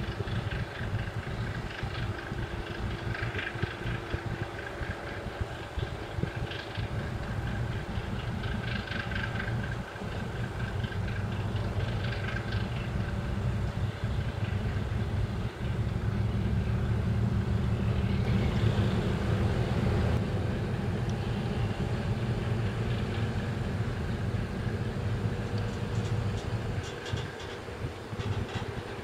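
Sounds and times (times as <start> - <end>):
boat diesel engines rumbling: 0.0 - 29.0.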